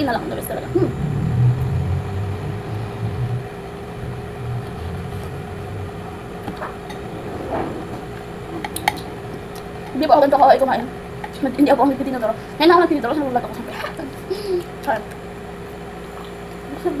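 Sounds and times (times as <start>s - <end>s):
low rumbling: 0.0s - 16.9s
faint steady hum: 0.0s - 17.0s.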